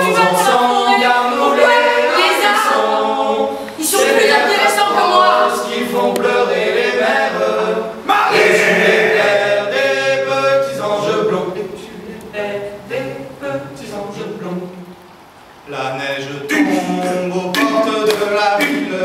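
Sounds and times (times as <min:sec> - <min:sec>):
voices singing a cappella: 0:00.0 - 0:14.9, 0:15.7 - 0:19.0.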